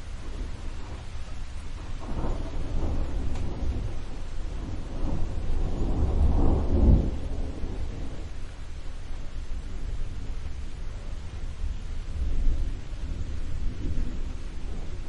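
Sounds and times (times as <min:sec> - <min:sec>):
rain hissing: 0:00.0 - 0:15.0
thunder rolling: 0:00.0 - 0:15.0.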